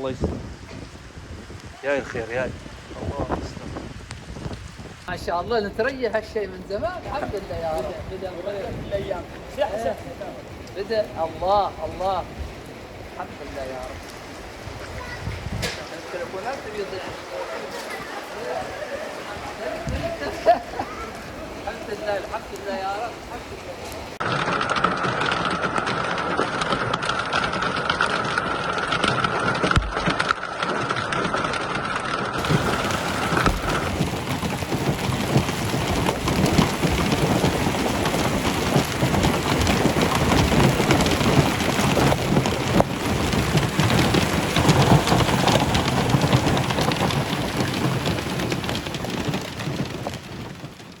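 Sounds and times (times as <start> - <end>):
rain pouring: 0.0 - 51.0.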